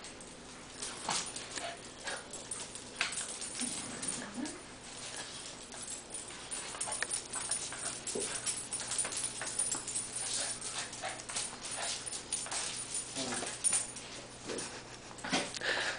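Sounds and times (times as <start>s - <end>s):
dogs scuffling: 0.0s - 15.5s.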